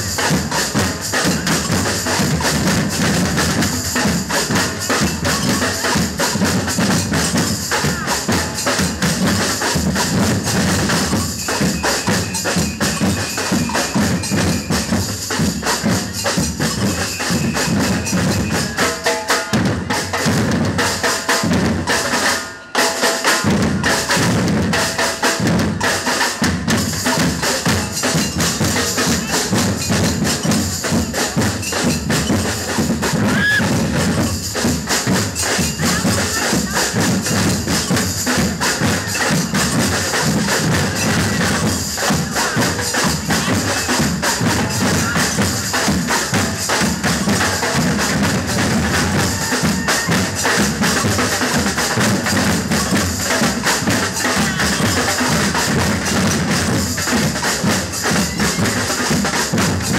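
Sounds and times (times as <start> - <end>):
drum band playing: 0.0 - 59.9.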